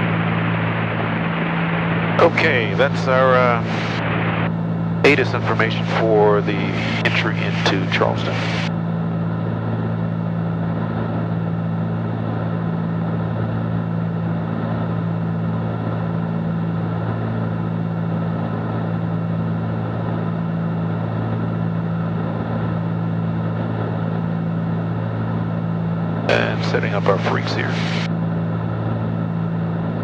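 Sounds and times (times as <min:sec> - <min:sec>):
propeller plane engines droning: 0:00.0 - 0:30.0.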